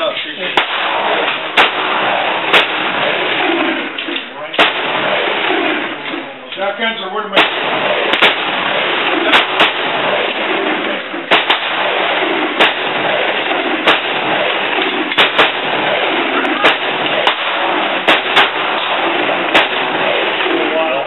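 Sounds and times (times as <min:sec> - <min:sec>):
rifle gunshots: 0:00.0 - 0:21.0.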